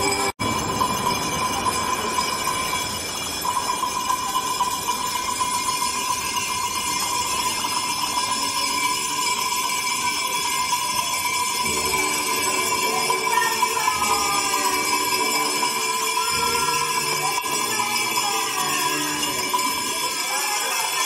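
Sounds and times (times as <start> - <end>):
hand bells ringing: 0.0 - 21.0.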